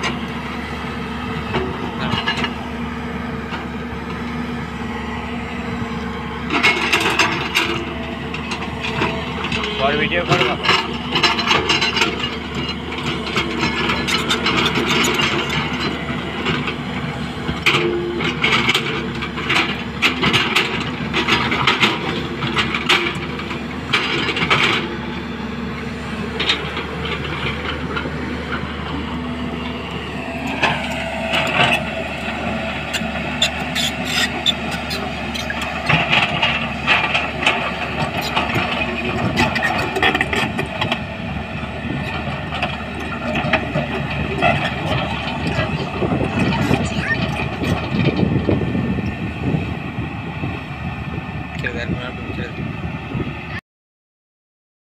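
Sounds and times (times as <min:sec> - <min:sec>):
excavator diesel engine running: 0:00.0 - 0:53.6.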